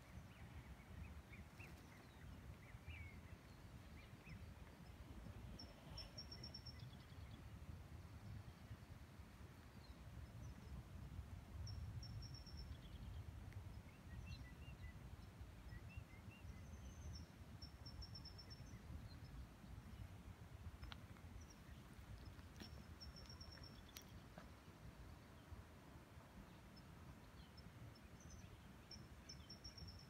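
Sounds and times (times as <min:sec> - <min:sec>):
songbird chirps and trills: 0:00.0 - 0:09.0, 0:11.6 - 0:25.6, 0:26.4 - 0:30.0.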